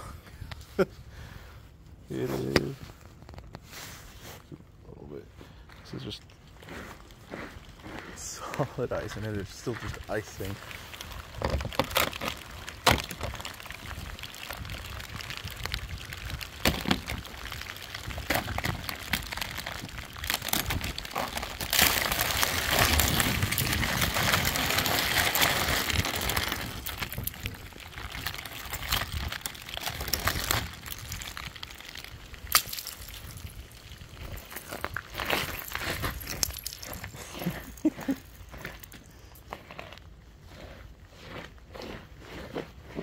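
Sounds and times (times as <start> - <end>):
ice crackling and crunching: 2.1 - 43.0.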